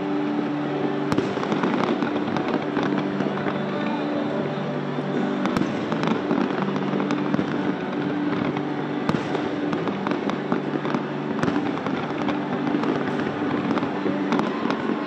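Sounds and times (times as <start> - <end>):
fireworks crackling: 0.0 - 15.0
firework bangs: 0.9 - 3.6, 5.1 - 15.0.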